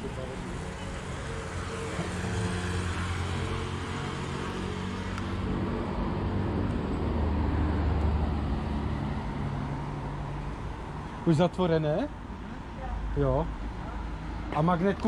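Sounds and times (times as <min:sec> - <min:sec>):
car engines and tyres passing: 0:00.0 - 0:15.0.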